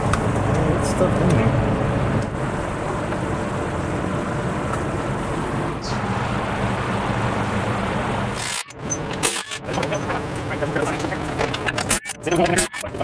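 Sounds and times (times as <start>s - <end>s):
low even shop hum: 0.0s - 13.0s.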